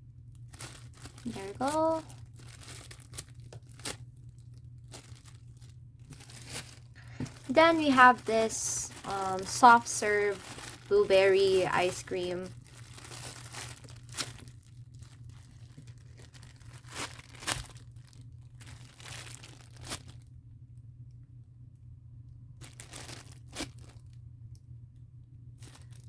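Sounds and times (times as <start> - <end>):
low hum: 0.0 - 26.0
foam toy crinkling and crackling: 0.1 - 20.4, 22.5 - 24.3, 25.5 - 26.0.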